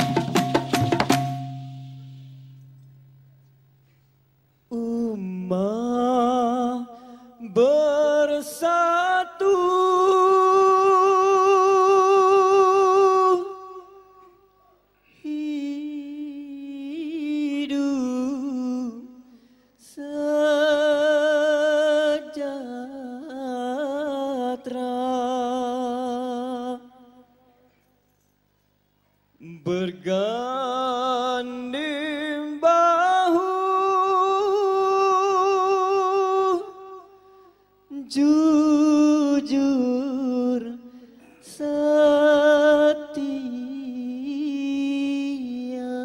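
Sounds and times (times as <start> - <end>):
man singing through a microphone: 4.7 - 27.5, 29.4 - 37.2, 37.9 - 46.0.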